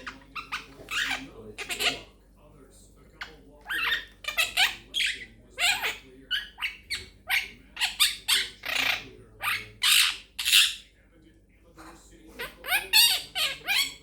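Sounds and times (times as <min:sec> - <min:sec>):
parrot squawking and chirping: 0:00.0 - 0:02.1, 0:03.2 - 0:10.9, 0:12.3 - 0:14.0.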